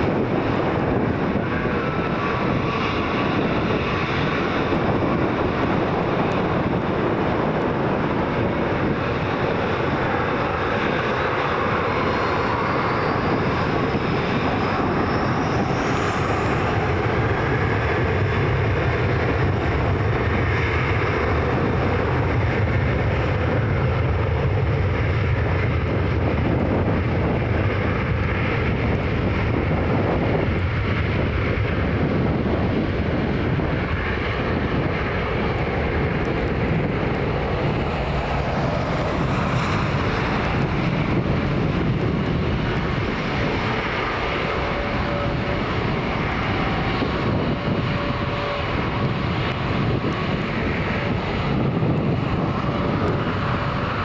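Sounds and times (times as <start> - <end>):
deep rumble: 0.0 - 54.0
high engine whine rising: 0.0 - 54.0
jet engines roaring: 0.0 - 54.0.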